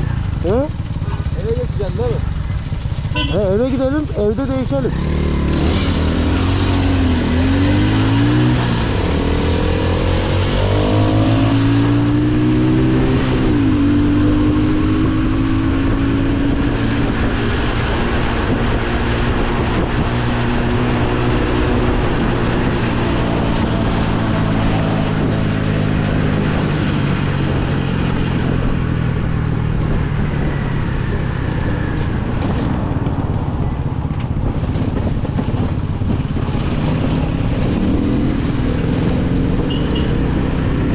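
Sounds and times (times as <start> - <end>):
motorcycle engine accelerating: 0.0 - 40.9
wind noise: 5.0 - 40.9.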